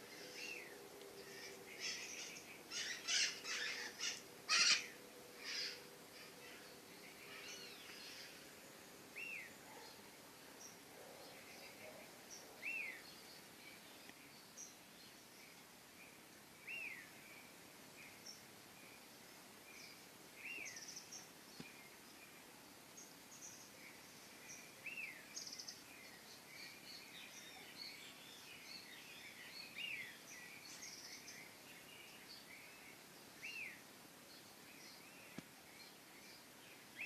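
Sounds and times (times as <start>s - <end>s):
small birds chirping: 0.0s - 37.0s
soft outdoor hiss: 0.0s - 37.0s.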